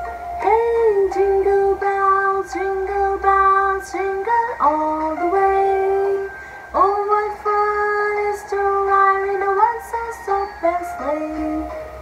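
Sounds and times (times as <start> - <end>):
woman singing: 0.4 - 12.0.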